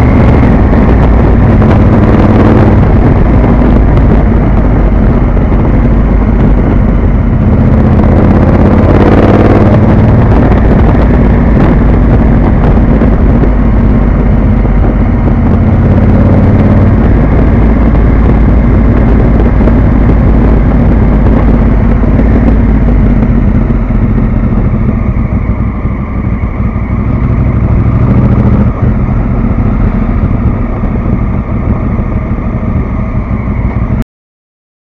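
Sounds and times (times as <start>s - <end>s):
motorcycle engine exhaust: 0.0s - 34.0s.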